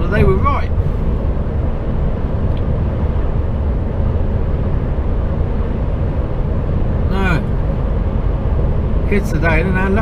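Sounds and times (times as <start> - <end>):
diesel engine drone: 0.0 - 10.0
tyre and road noise: 0.0 - 10.0.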